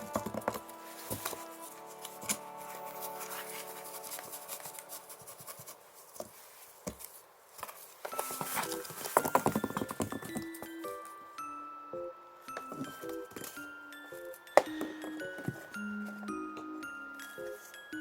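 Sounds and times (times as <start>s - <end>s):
light background music: 0.0s - 5.8s, 8.1s - 18.0s.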